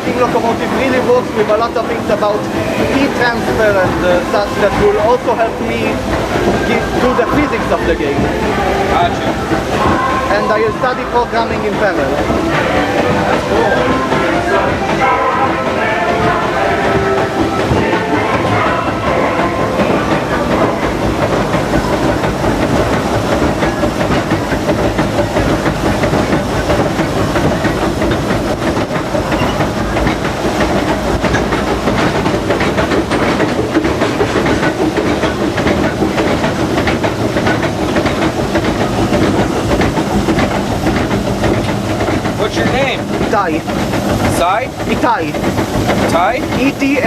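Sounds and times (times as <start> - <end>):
locomotive running noise: 0.0 - 47.0
steam hissing: 0.0 - 47.0
wheels clicking over rails: 0.0 - 47.0.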